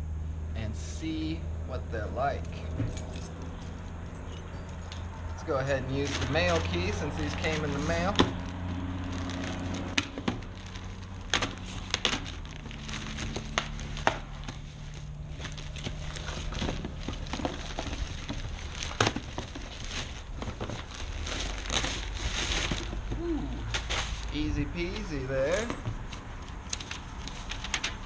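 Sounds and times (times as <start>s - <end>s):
plastic mailer rustling: 4.7s - 28.0s
plastic wrapping crinkling: 4.7s - 28.0s.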